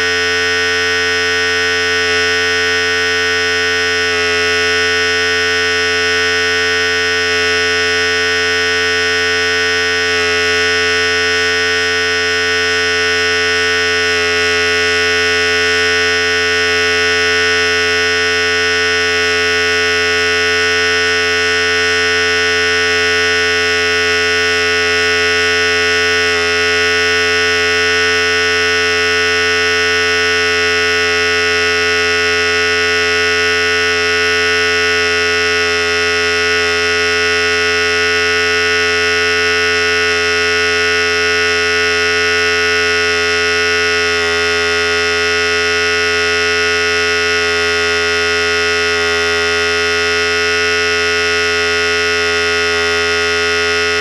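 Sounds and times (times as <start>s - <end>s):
electric hair clipper running: 0.0s - 54.0s.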